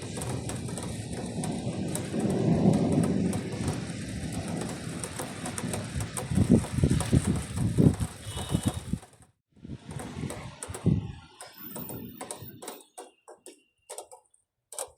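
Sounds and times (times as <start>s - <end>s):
thunder rumbling: 0.0s - 12.3s
rain hissing: 0.0s - 12.6s.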